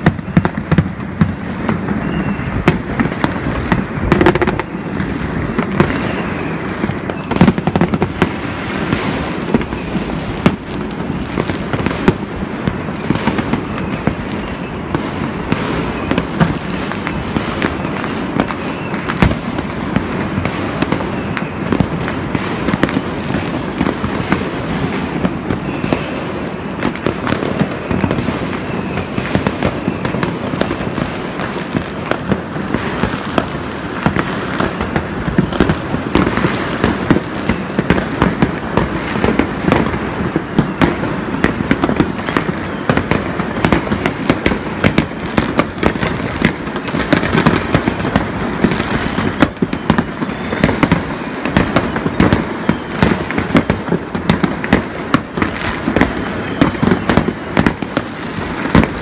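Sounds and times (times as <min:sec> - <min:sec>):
fireworks crackling and banging: 0:00.0 - 0:59.0.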